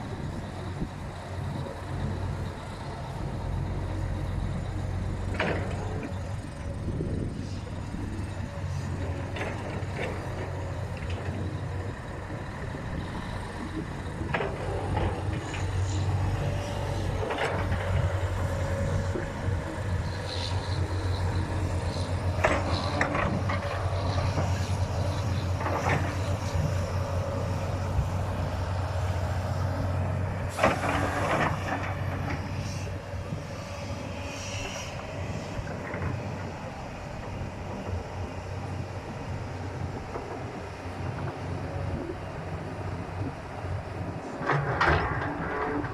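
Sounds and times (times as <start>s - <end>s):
diesel engines droning: 0.0s - 45.9s.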